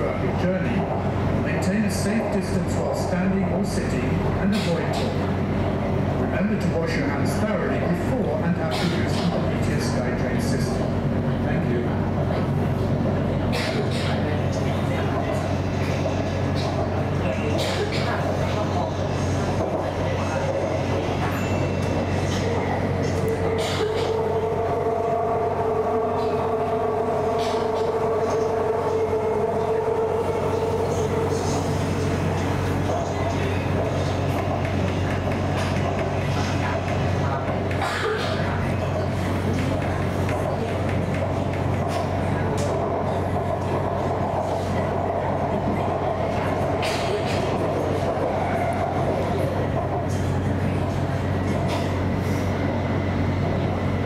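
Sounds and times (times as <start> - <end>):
train running gear rumble: 0.0 - 54.0.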